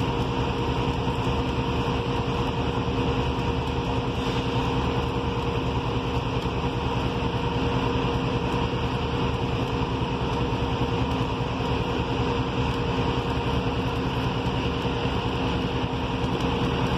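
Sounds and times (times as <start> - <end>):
arc welding crackle: 0.0 - 16.9
machinery hum: 0.0 - 16.9.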